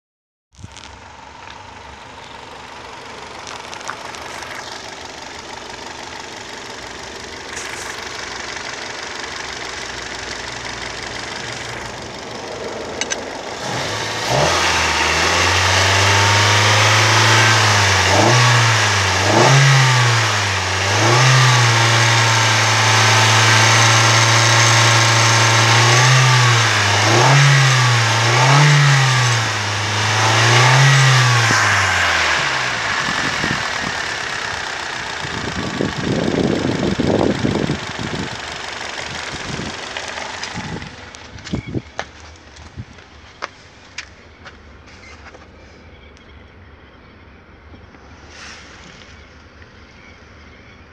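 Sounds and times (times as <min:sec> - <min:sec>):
petrol engine idling and revving: 0:00.6 - 0:50.9.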